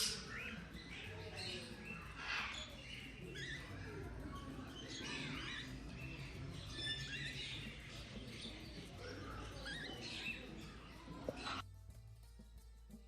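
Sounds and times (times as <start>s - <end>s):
birds chirping and squawking: 0.0s - 11.6s
background murmur: 0.0s - 11.7s.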